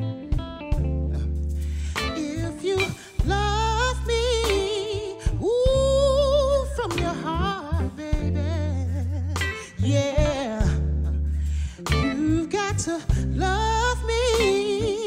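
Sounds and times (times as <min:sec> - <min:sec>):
soul band playing: 0:00.0 - 0:15.0
man singing with vibrato: 0:01.1 - 0:15.0.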